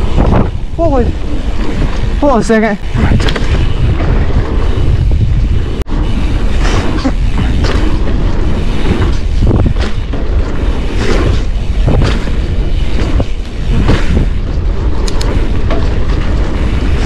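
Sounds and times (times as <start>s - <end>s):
bike jolting over bumps: 0.0s - 17.0s
bike tyre noise and rattles: 0.0s - 17.0s
wind buffeting microphone: 0.0s - 17.0s.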